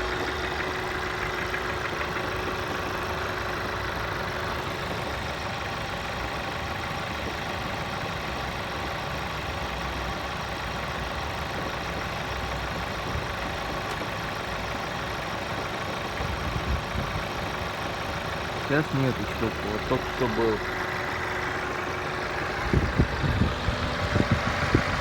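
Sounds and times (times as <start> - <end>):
car engine idling: 0.0 - 25.0
engine knocking: 0.0 - 25.0.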